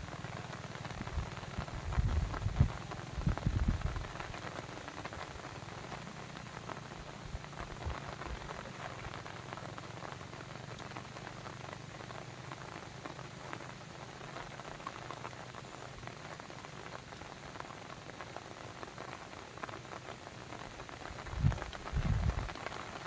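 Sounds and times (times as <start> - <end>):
water dripping patter: 0.0 - 23.0.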